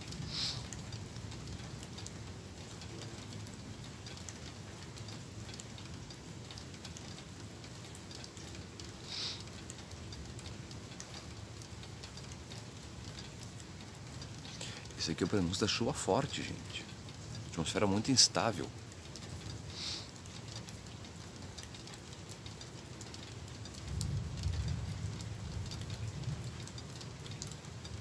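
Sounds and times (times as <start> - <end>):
light rain pattering and dripping: 0.0 - 28.0.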